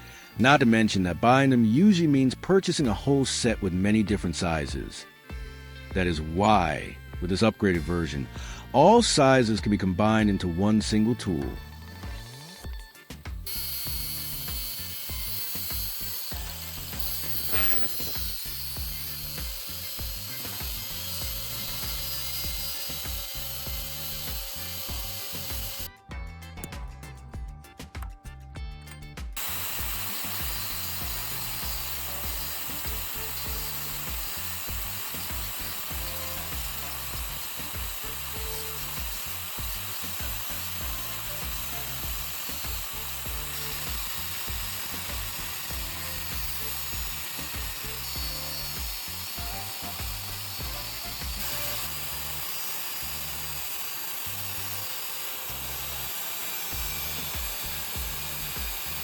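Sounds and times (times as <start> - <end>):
power tool running: 0.0 - 25.9, 29.4 - 59.0
background music with bass: 0.0 - 52.4.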